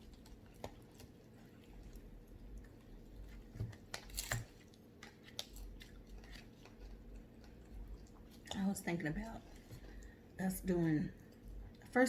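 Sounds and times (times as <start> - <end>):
crisp food crackles: 0.0 - 10.2
quiet chewing: 0.0 - 12.0.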